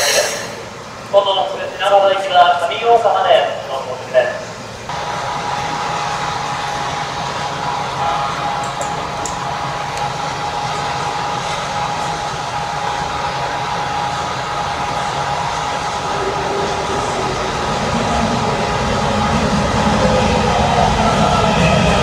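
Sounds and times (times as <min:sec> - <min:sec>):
steady whine: 0:00.0 - 0:22.0
train whirring: 0:00.0 - 0:22.0.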